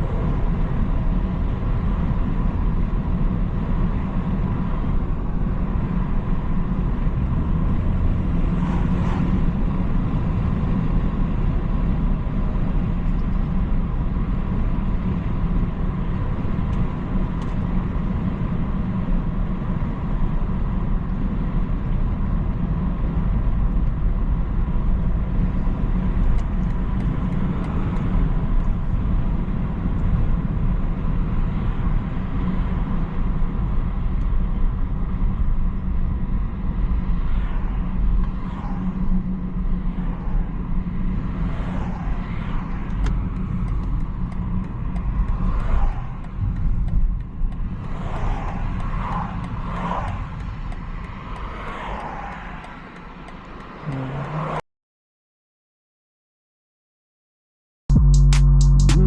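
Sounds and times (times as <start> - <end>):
car engine and road rumble: 0.0 - 54.6, 57.9 - 59.0.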